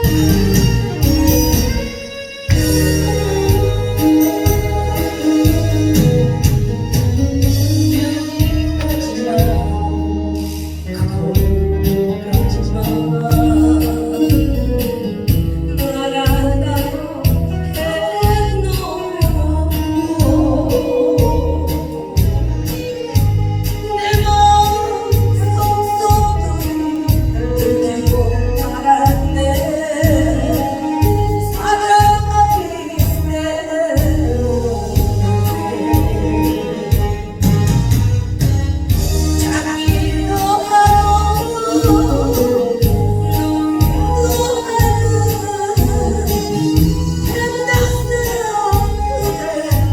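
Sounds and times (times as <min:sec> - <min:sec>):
pulsing bass: 0:00.0 - 0:01.9, 0:02.5 - 0:49.9
person singing: 0:00.0 - 0:37.7, 0:39.1 - 0:49.9
backing track with steady beat: 0:00.0 - 0:49.9.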